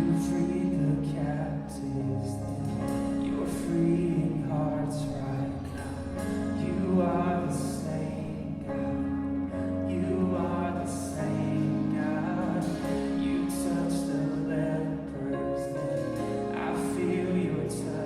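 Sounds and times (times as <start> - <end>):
voices singing: 0.0 - 18.0
worship band playing: 0.0 - 18.0.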